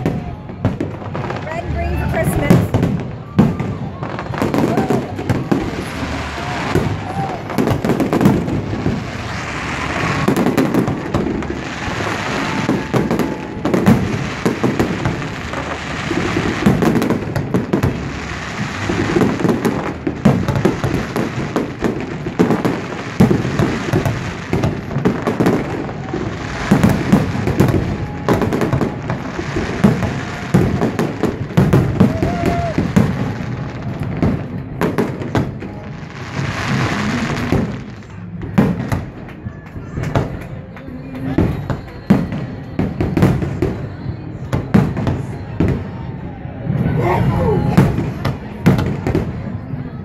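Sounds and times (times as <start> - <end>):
fireworks bursting with sharp bangs: 0.0 - 50.0.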